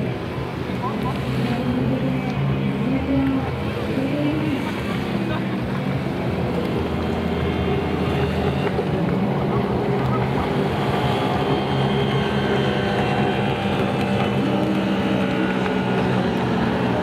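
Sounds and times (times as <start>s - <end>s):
jet ski engines at speed: 0.0s - 17.0s.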